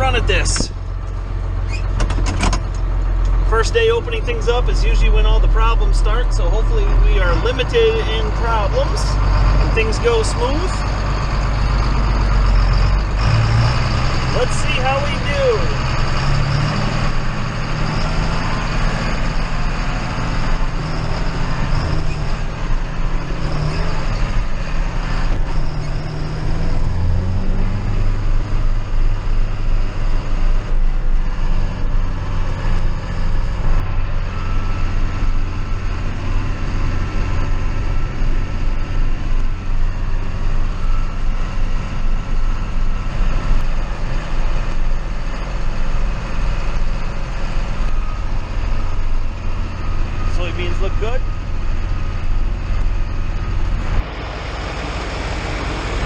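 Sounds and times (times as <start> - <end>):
farm vehicle engine running: 0.0 - 56.0.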